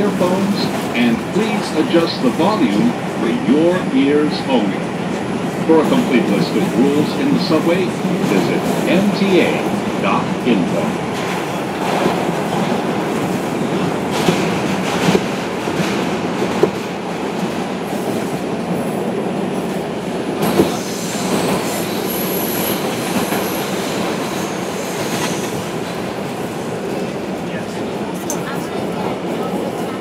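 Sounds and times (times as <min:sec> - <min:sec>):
steel wheels rumbling on rail: 0:00.0 - 0:30.0.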